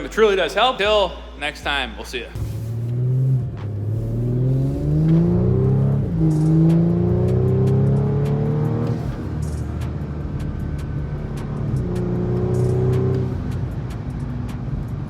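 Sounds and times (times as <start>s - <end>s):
car engine accelerating: 2.4s - 15.0s.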